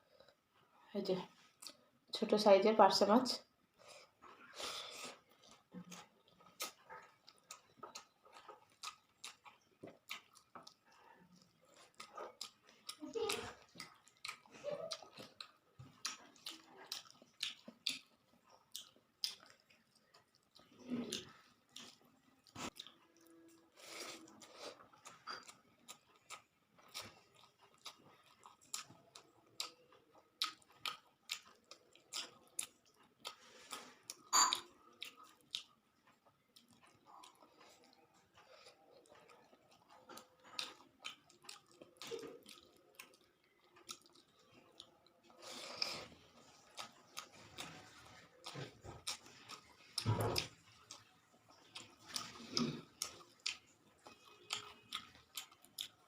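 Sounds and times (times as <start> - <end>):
wet chewing: 3.7 - 56.0.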